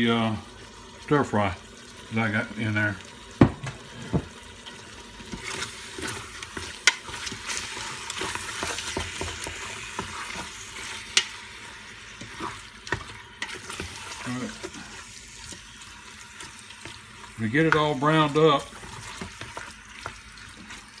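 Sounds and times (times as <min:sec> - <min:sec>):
chicken sizzling in oil: 0:00.0 - 0:21.0.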